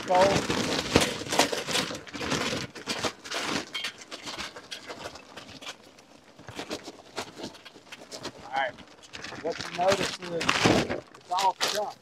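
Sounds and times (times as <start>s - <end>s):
charcoal chunks clattering: 0.0s - 12.0s.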